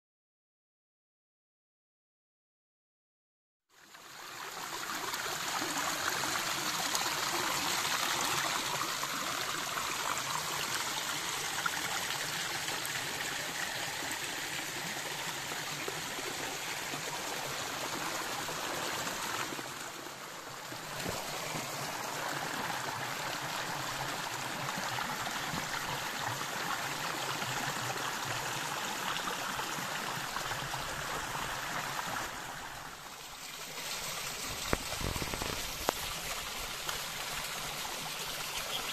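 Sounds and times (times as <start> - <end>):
small waterfall splashing: 3.8 - 38.9.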